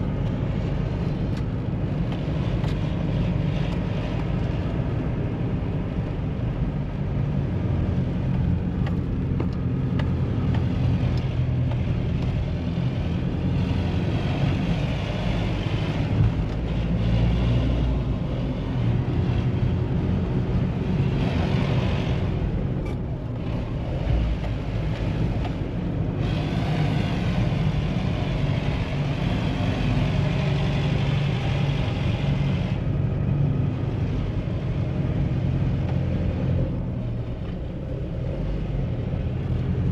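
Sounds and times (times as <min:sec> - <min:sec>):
diesel engine drone: 0:00.0 - 0:39.9
road and tyre noise: 0:00.0 - 0:39.9.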